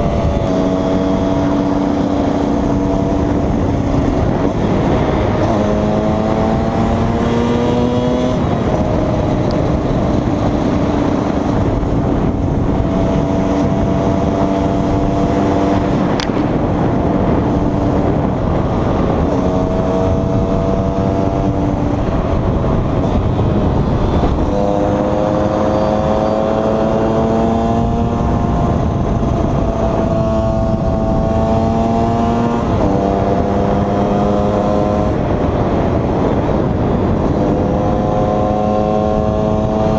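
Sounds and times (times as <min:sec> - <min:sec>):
two-stroke motorcycle engine shifting gears: 0:00.0 - 0:39.9.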